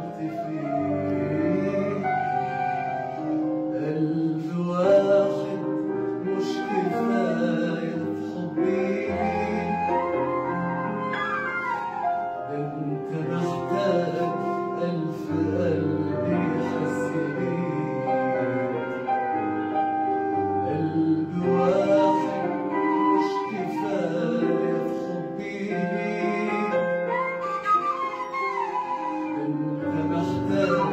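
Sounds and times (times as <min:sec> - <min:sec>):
man singing into microphone: 0:00.0 - 0:10.6, 0:12.4 - 0:19.2, 0:20.6 - 0:30.9
instrumental accompaniment: 0:00.0 - 0:30.9.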